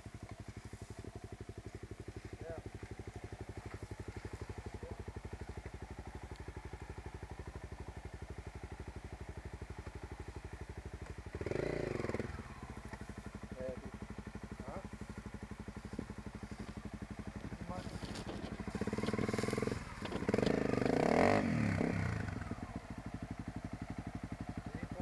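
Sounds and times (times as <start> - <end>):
dirt bike engine idling: 0.0 - 25.0.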